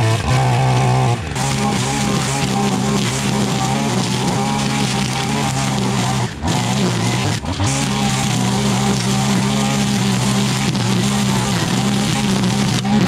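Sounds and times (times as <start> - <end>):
string trimmer engine cutting grass: 0.0 - 13.0.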